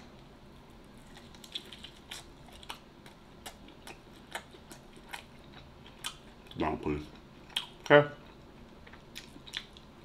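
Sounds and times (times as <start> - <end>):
man chewing wetly: 0.9 - 10.0.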